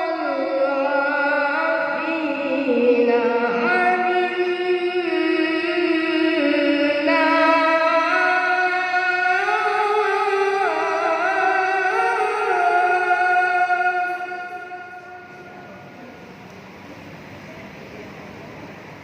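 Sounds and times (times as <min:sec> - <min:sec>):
child reciting melodically: 0:00.0 - 0:15.8.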